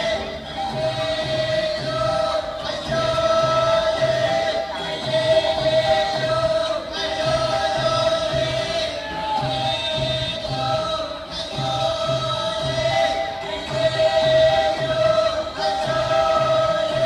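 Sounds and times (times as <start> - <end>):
choir singing: 0.0 - 17.0
low beat: 0.0 - 17.0.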